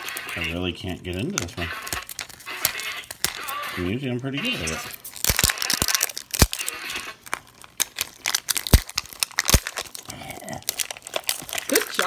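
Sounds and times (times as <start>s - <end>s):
plastic capsule clicking and cracking: 0.0s - 3.7s, 4.9s - 12.0s.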